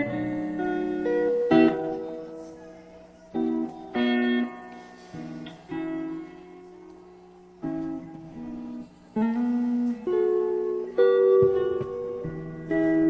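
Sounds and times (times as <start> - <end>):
slow acoustic guitar chords: 0.0 - 13.0.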